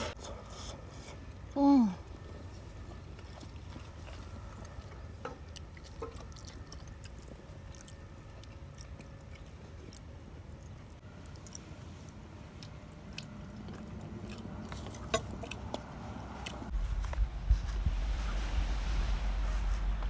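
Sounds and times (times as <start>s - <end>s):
crunchy chewing: 0.2s - 17.2s
low steady rumble: 0.4s - 20.0s.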